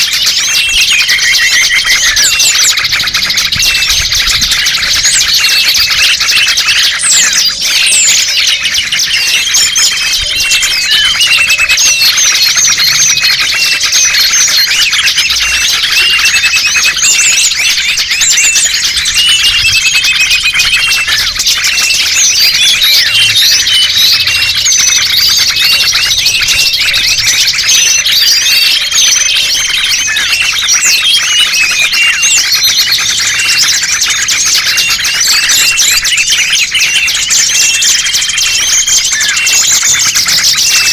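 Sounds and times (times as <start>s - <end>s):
chorus of songbirds chirping: 0.0s - 40.9s.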